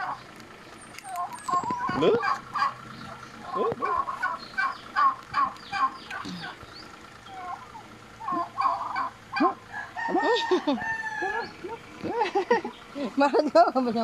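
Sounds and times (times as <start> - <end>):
poultry calling: 0.0 - 13.2.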